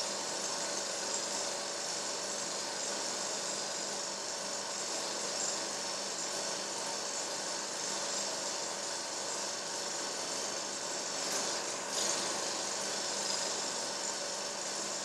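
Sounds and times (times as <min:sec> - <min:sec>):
mechanical whirring with hiss: 0:00.0 - 0:15.0.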